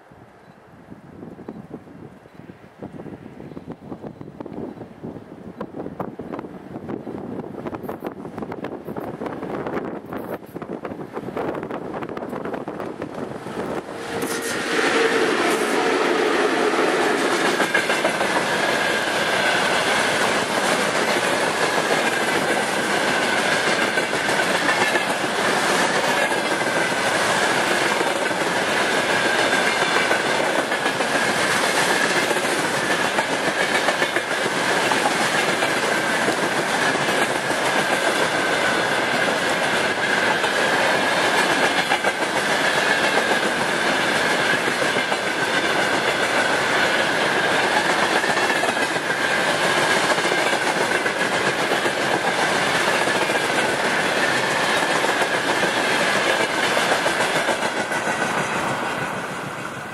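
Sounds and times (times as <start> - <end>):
train wheels clattering on rails: 7.6 - 59.9.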